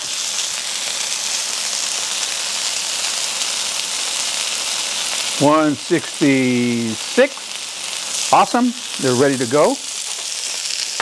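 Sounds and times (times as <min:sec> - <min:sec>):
meat sizzling on a grill pan: 0:00.0 - 0:11.0.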